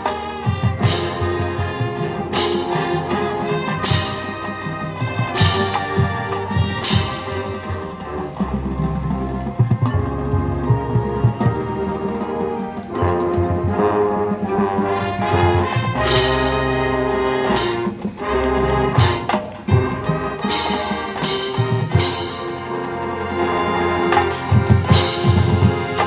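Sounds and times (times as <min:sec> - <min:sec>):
marching band brass chords: 0:00.0 - 0:26.0.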